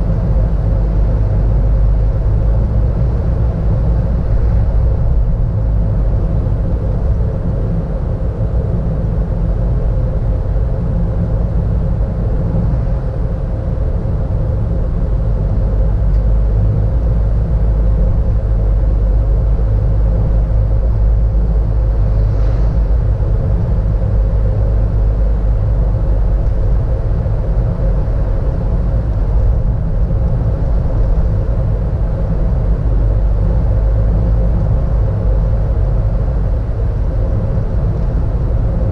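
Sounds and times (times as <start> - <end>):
car engine and road noise: 0.0 - 38.9
faint steady hum: 0.0 - 38.9.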